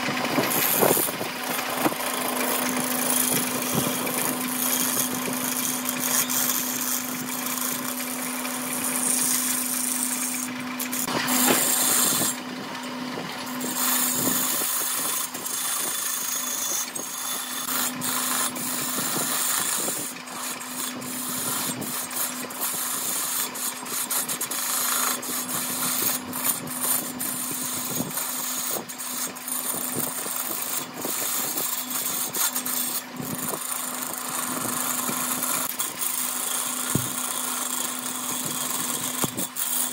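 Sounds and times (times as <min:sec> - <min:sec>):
gouge scraping spinning wood: 0:00.0 - 0:39.9
wood lathe humming: 0:00.0 - 0:39.9.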